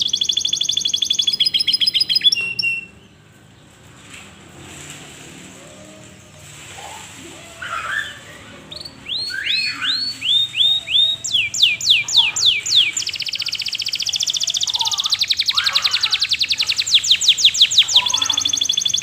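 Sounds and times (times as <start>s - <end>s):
canary singing: 0.0s - 3.7s, 5.6s - 19.0s.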